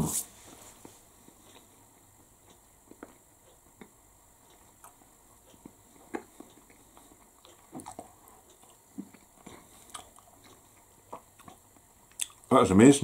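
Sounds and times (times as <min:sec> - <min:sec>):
pastry chewing crackles: 0:01.2 - 0:12.6.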